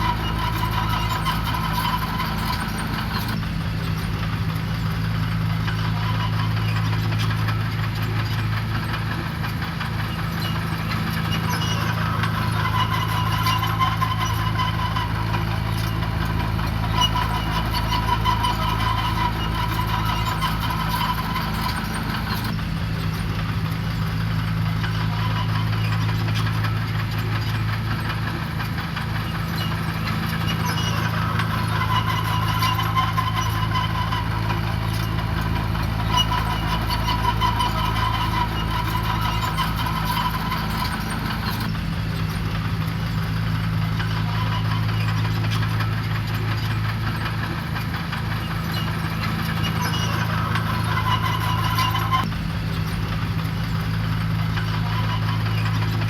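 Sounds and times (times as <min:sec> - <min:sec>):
heavy machinery diesel engine: 0:00.0 - 0:56.0
high-pitched machine whine: 0:00.0 - 0:56.0.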